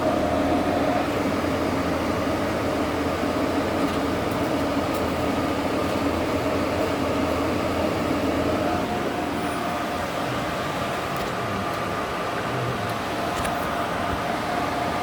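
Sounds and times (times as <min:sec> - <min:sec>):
machine hum with noisy rush: 0:00.0 - 0:15.0.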